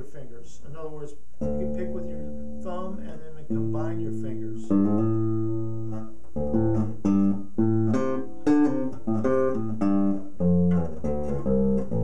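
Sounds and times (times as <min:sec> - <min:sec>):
electric bass plucked notes: 0:01.4 - 0:12.0.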